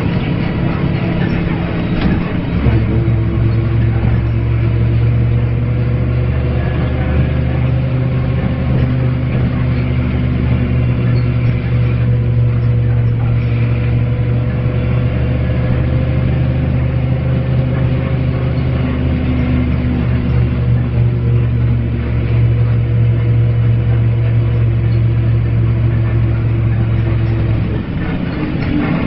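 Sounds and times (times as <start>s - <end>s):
bus engine droning: 0.0s - 29.0s.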